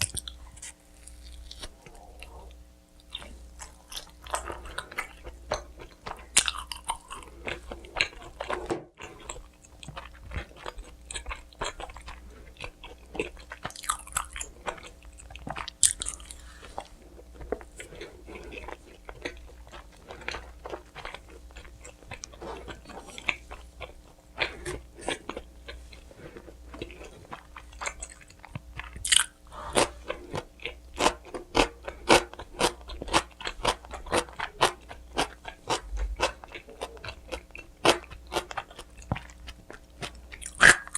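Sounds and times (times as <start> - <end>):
crunching bites of pizza: 0.0 - 2.3, 3.0 - 40.9.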